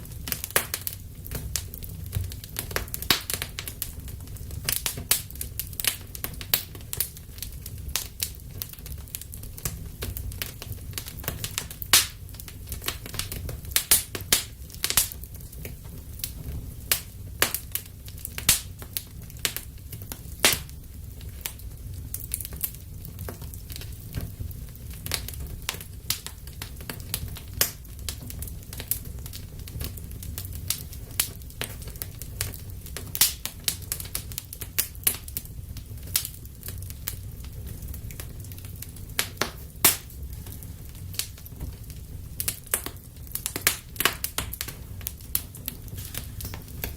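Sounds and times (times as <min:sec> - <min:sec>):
fire crackling and popping: 0:00.0 - 0:46.9
low rumble of flames: 0:00.0 - 0:46.9.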